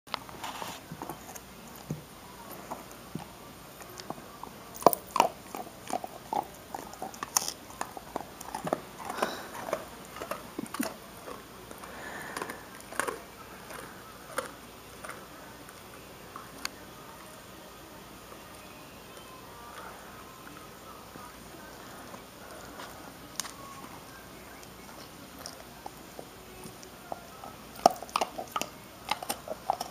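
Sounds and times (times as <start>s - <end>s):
dog crunching biscuit: 0.3s - 16.8s, 22.0s - 29.9s.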